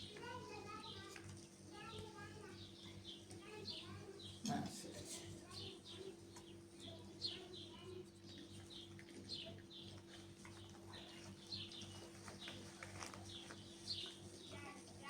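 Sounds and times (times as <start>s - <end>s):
small birds chirping: 1.8s - 4.4s, 5.4s - 15.0s.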